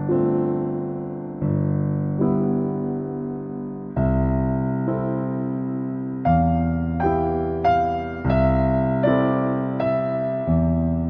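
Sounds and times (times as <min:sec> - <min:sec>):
slow soft solo piano: 0:00.0 - 0:11.0.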